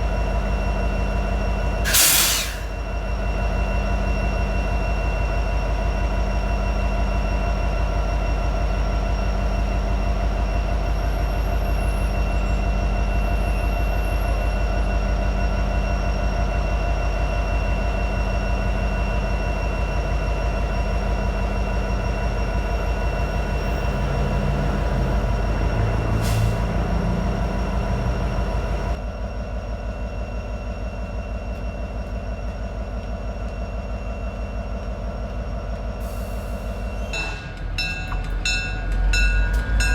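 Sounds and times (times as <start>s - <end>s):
diesel locomotive engine rumble: 0.0s - 39.9s.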